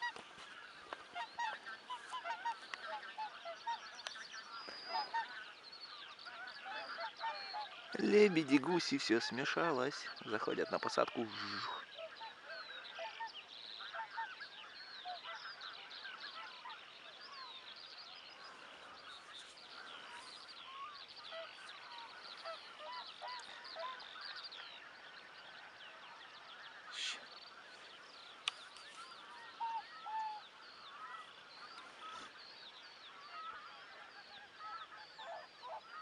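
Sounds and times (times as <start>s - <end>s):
geese and swans honking: 0.0s - 36.0s.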